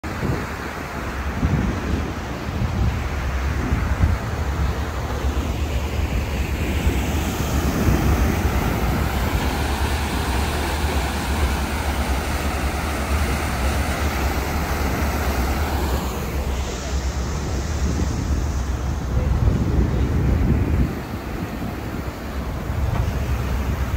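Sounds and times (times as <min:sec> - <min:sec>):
ferry engine rumble: 0:00.0 - 0:23.9
rushing hiss of wake: 0:00.1 - 0:23.9.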